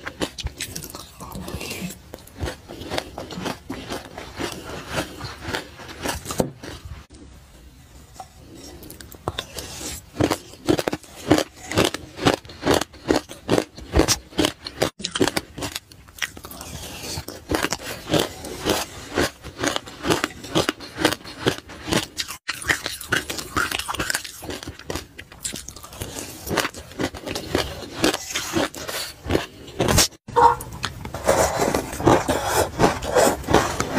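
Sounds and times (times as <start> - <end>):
crunchy chewing: 0.0 - 7.0, 8.7 - 33.9.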